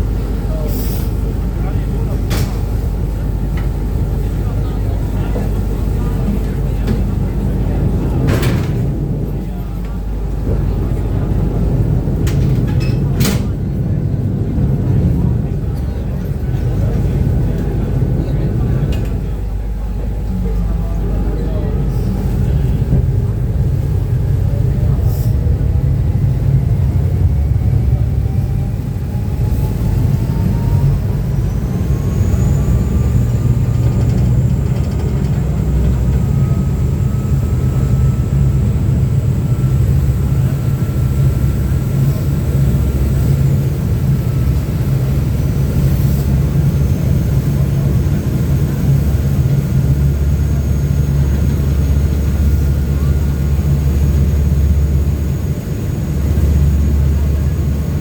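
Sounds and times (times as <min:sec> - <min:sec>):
boat engines rumbling: 0:00.0 - 0:58.0
engine whine: 0:00.0 - 0:58.0.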